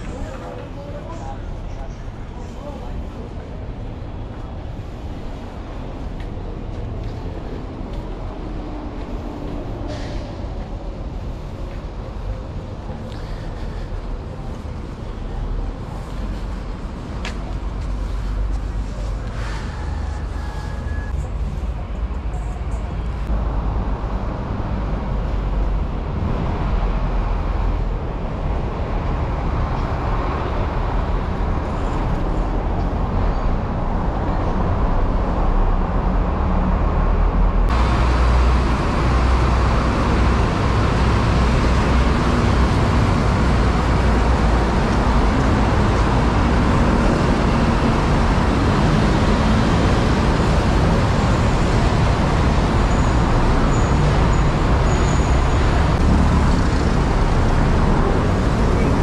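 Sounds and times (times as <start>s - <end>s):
road traffic rumble: 0.0s - 59.0s
vehicles passing close: 0.0s - 59.0s.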